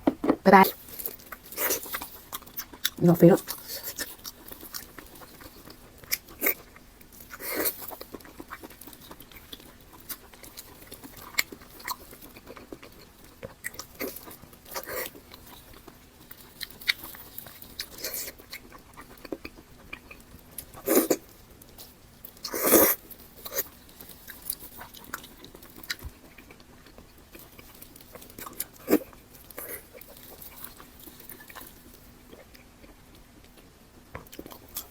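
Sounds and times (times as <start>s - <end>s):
chewing and biting: 0.8s - 34.9s.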